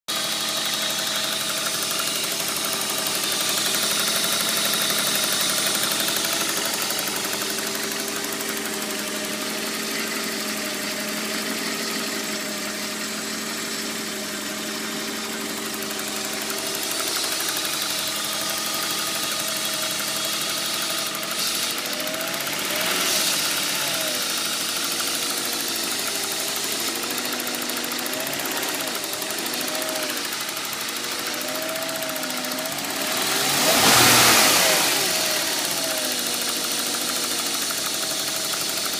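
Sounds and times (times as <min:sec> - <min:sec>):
engine ticking noise: 0:00.1 - 0:11.6, 0:12.2 - 0:38.9
car engine idling: 0:00.1 - 0:38.9.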